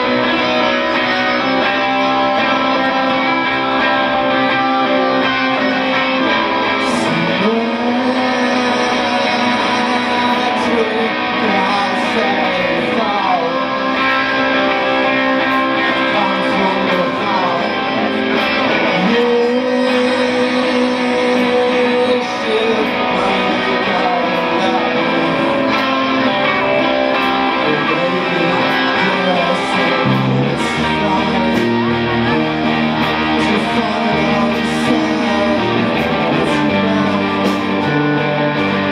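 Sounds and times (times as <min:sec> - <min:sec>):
bass guitar: 0:00.0 - 0:38.9
drums: 0:00.0 - 0:38.9
electric guitars bending notes: 0:00.0 - 0:38.9.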